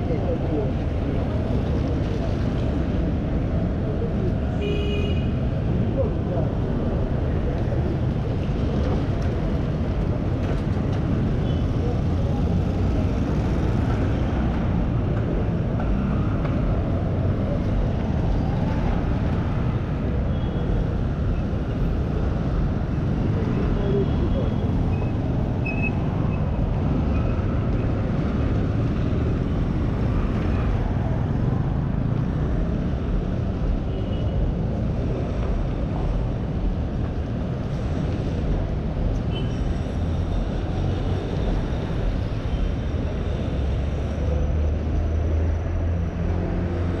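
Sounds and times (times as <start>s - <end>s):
city street traffic rumble: 0.0s - 47.0s.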